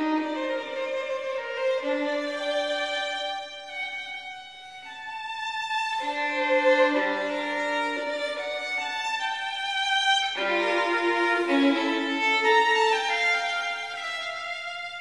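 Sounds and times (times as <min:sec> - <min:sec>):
slow violin melody: 0:00.0 - 0:15.0.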